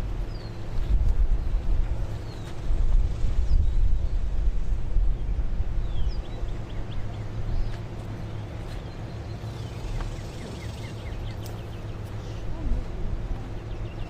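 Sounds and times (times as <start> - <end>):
small birds chirping: 0.0 - 4.5, 5.2 - 14.0
low steady rumble: 0.0 - 14.0.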